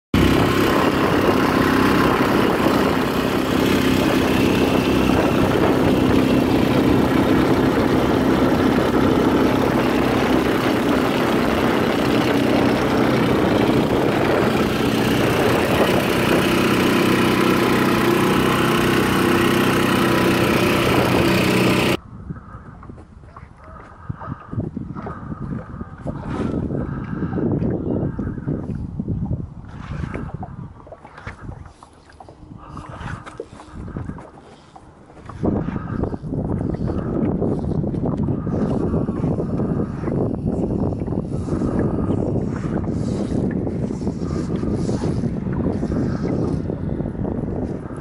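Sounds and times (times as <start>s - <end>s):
outboard motor running: 0.2s - 22.0s, 23.6s - 48.0s.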